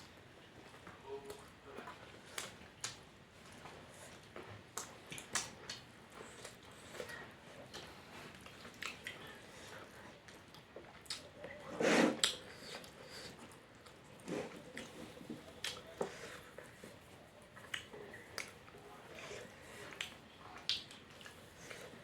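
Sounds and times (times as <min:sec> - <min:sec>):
chewing: 0:00.6 - 0:22.0.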